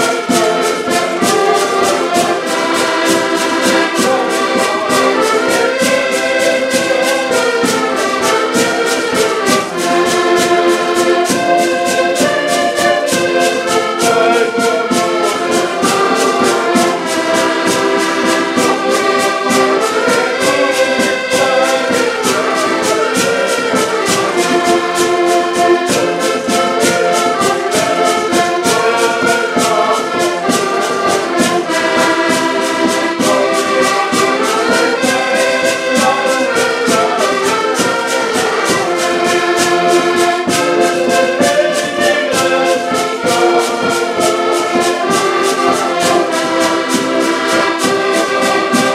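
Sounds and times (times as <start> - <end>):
accordions playing a tune: 0.0 - 48.9.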